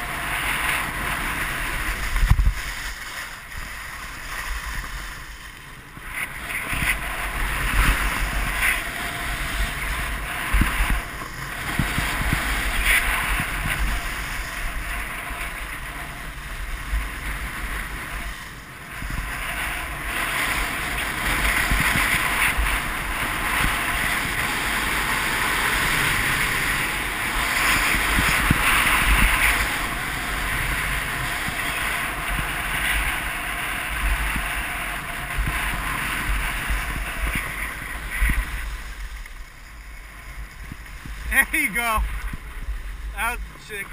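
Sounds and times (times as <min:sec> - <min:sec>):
skis carving packed snow: 0:00.0 - 0:43.9
wind buffeting microphone: 0:00.0 - 0:43.9.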